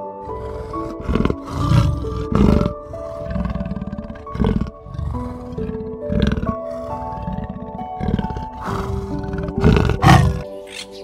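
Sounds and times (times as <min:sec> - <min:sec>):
big cat roaring and growling: 0:00.0 - 0:10.5
gentle background music: 0:00.0 - 0:11.0.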